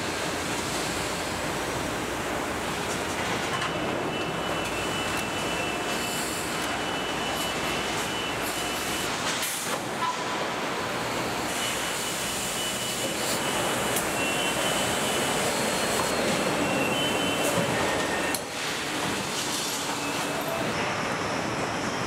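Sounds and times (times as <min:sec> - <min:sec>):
machinery hum and hiss: 0:00.0 - 0:22.0.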